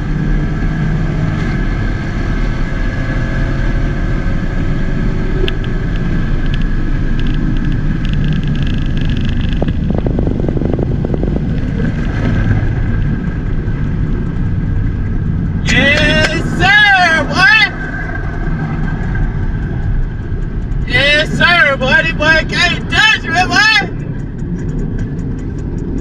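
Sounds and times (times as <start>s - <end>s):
car exhaust rumble: 0.0s - 26.0s
road noise: 0.0s - 26.0s.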